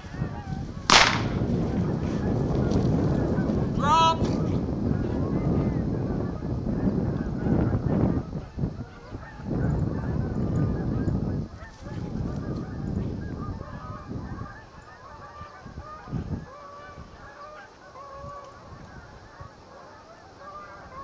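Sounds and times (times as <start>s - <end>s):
geese honking: 0.0s - 21.0s
wind rumble on microphone: 0.0s - 21.0s.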